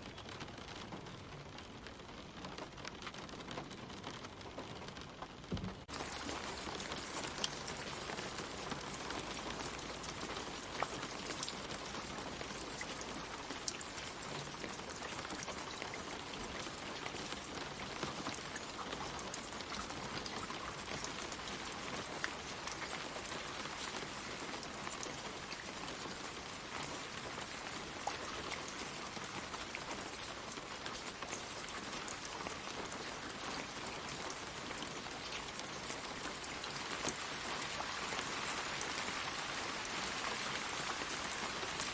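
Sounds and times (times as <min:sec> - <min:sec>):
rain hissing on leaves: 0:00.0 - 0:41.9
raindrops ticking: 0:00.0 - 0:41.9.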